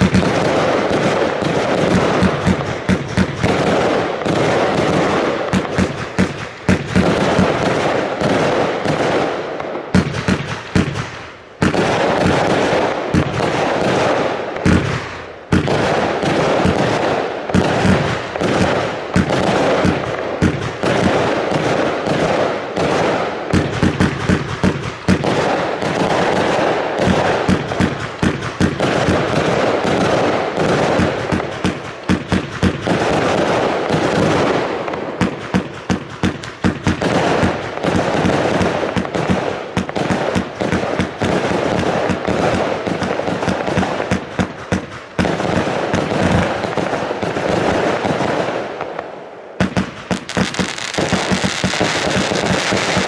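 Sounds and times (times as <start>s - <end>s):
fireworks launching and bursting: 0.0s - 53.0s.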